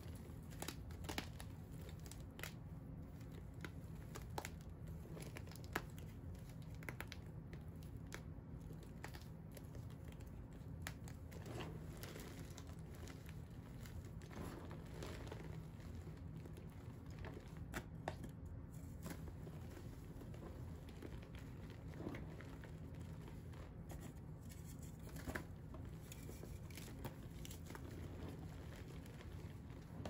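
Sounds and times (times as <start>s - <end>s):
hands crushing dry chunks: 0.0s - 30.0s.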